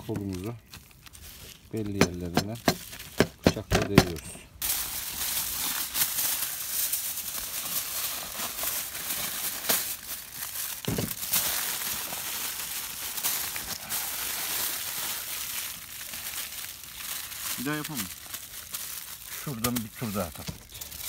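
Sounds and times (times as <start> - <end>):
aluminium foil crinkling: 0.0 - 21.0.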